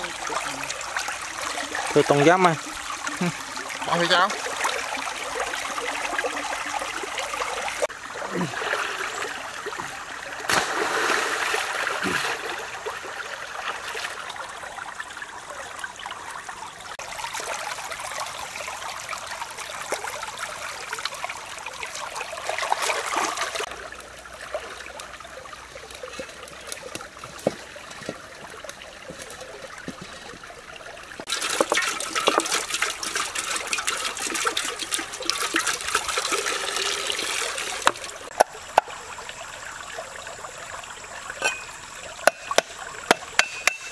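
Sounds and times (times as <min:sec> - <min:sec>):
shallow stream running: 0:00.0 - 0:43.9
things rinsed in water: 0:00.0 - 0:43.9
water streaming into metal wok: 0:00.0 - 0:43.9.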